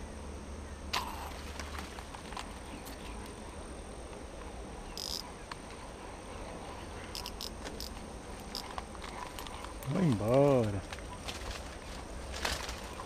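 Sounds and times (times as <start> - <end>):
crickets and insects trilling: 0.0 - 13.0.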